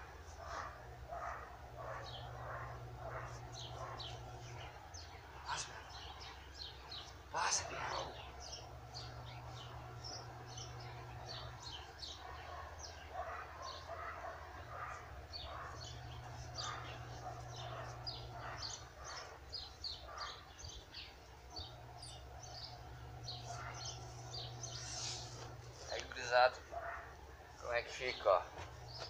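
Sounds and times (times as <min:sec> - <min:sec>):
low steady hum: 0:00.0 - 0:29.0
small birds chirping: 0:00.0 - 0:29.0.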